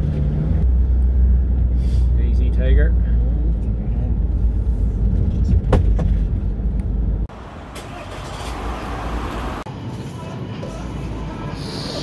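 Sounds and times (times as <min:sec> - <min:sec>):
engine and road rumble: 0:00.0 - 0:11.5.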